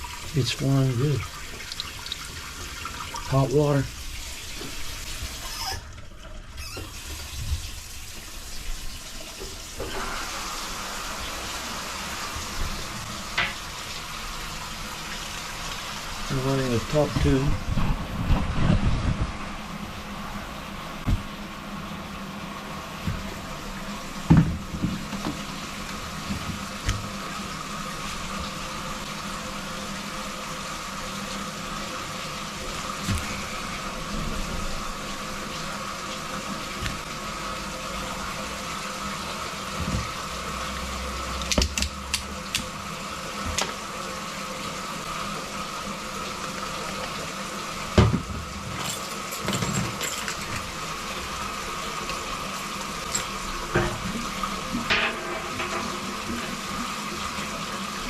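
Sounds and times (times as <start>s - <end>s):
faucets running: 0.0s - 17.9s, 19.9s - 58.0s
water flowing down drains: 0.0s - 58.0s.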